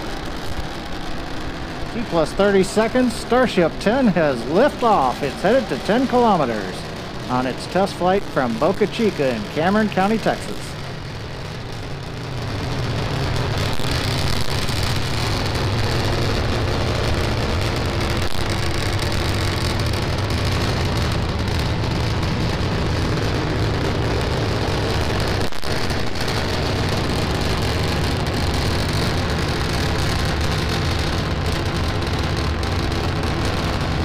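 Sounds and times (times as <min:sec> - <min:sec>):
rocket engines roaring: 0:00.0 - 0:34.0.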